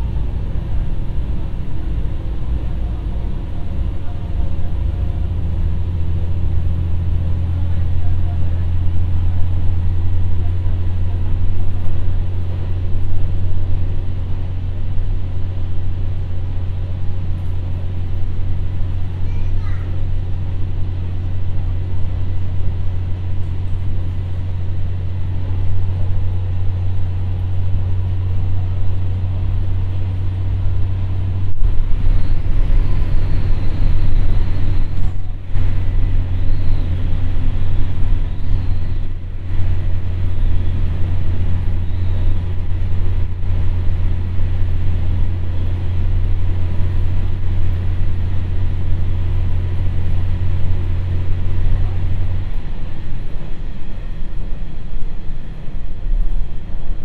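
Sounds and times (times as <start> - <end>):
railcar engine drone: 0.0 - 57.0
wheel and rail noise: 0.0 - 57.0.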